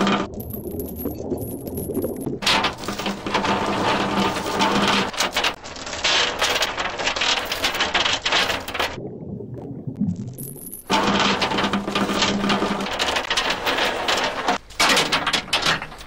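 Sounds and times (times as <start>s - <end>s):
anchor chain rattling: 0.0s - 9.0s, 10.4s - 16.0s.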